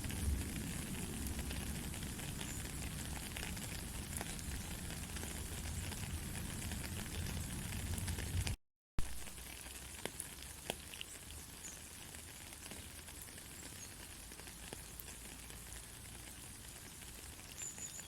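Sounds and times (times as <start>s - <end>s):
light rain: 0.0s - 18.0s
sharp raindrop clicks: 0.0s - 18.0s.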